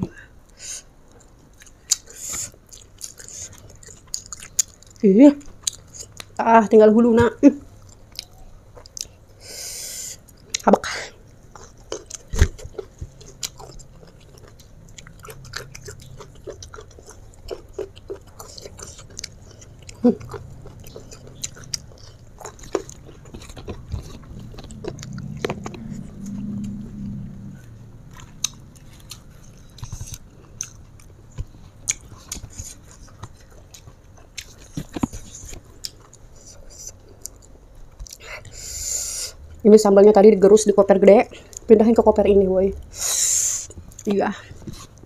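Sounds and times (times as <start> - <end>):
person chewing: 0.0 - 6.4, 7.6 - 39.5, 42.8 - 45.0.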